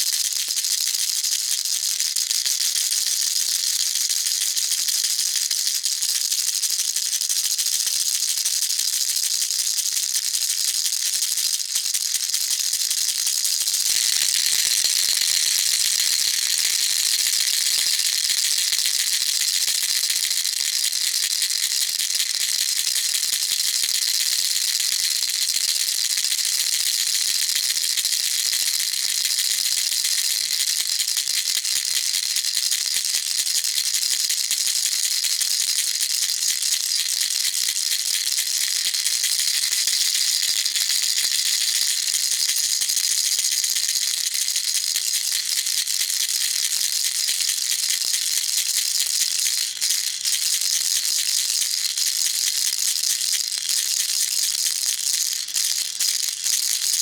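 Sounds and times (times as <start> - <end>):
baby rattle shaken: 10.6 - 57.0.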